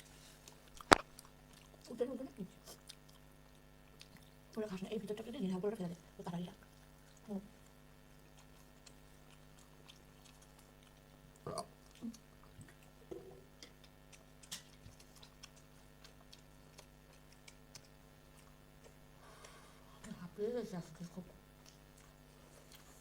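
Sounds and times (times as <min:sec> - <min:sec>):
steady low hum: 0:00.0 - 0:23.0
person chewing: 0:00.3 - 0:01.9, 0:02.6 - 0:04.6, 0:06.6 - 0:19.9, 0:21.5 - 0:23.0.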